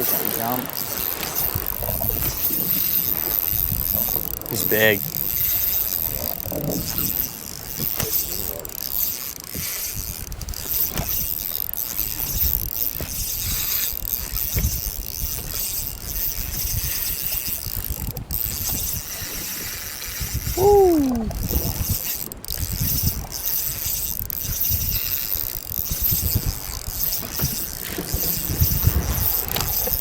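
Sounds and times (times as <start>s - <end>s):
fishing reel cranking and clicking: 0.0s - 30.0s
waves: 0.0s - 30.0s
wind: 0.0s - 30.0s.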